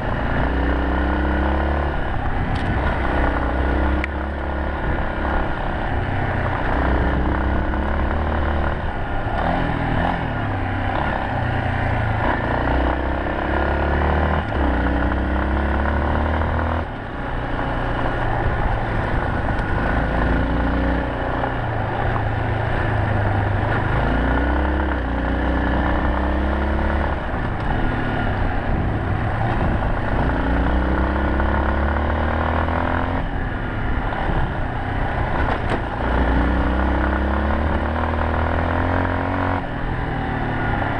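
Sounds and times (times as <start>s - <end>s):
motorcycle engine revving: 0.0s - 40.9s
steady rushing noise: 0.0s - 40.9s.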